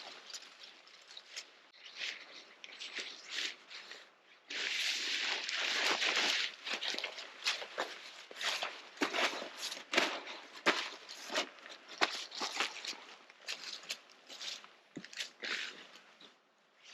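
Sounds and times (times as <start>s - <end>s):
camping gear rustling: 0.0s - 16.3s.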